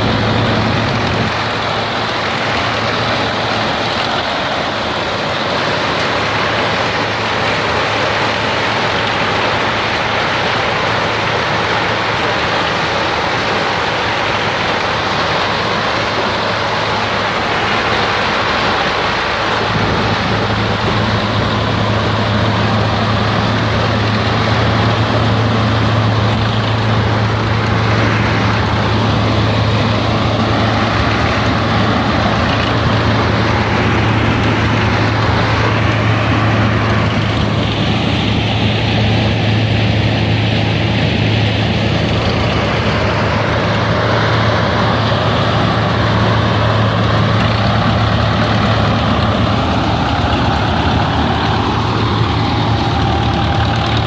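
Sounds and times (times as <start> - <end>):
engine-like drone: 0.0 - 54.0.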